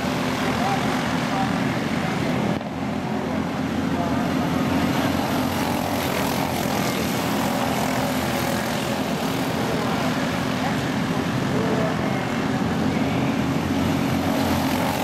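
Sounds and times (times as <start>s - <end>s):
small race car engines buzzing: 0.0s - 15.0s.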